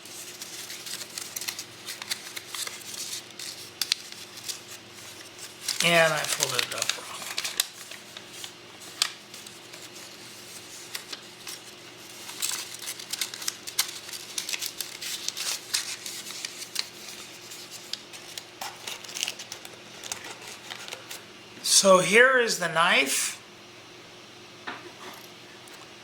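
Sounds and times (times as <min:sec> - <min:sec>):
paper rustling: 0:00.0 - 0:21.2.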